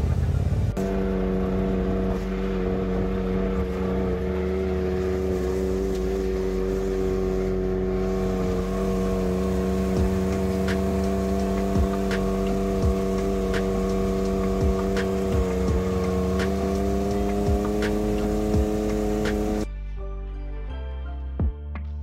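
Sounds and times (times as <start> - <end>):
utility vehicle engine running: 0.0 - 19.7.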